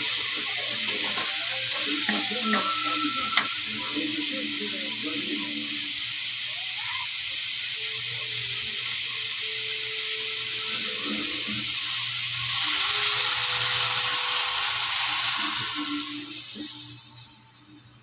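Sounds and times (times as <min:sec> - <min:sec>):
food sizzling in a hot wok: 0:00.0 - 0:18.0.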